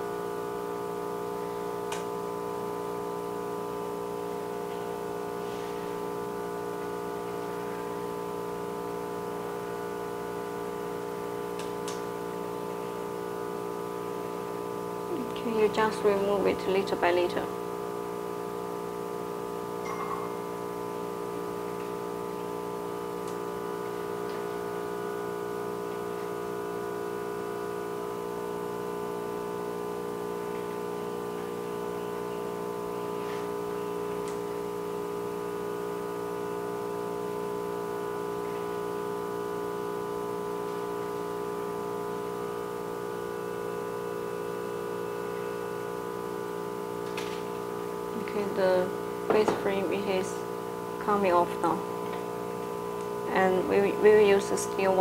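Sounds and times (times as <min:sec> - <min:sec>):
steady hum of held tones: 0:00.0 - 0:55.0.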